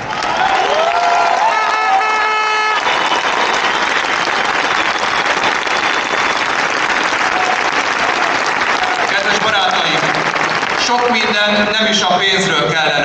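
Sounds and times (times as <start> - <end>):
large crowd applauding: 0.0 - 12.9.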